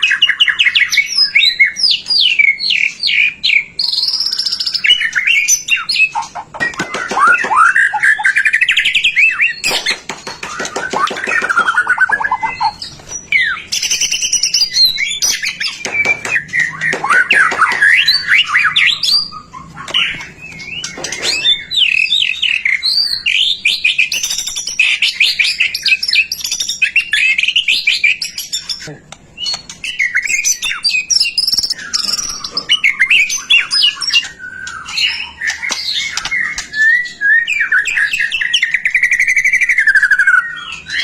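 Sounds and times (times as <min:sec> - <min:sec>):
bird singing whistles and trills: 0:00.0 - 0:41.0.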